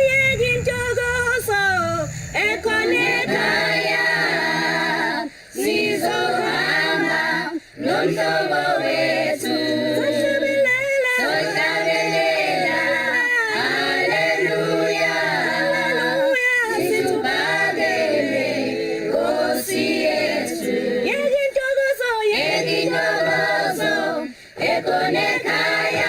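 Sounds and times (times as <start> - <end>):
choir singing in harmony: 0.0 - 21.4, 22.3 - 26.0.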